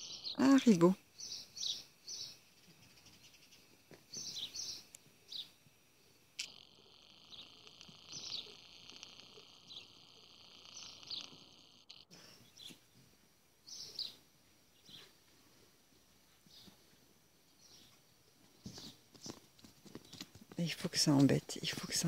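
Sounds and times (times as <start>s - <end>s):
small birds chirping: 0.0s - 15.6s, 16.2s - 22.0s.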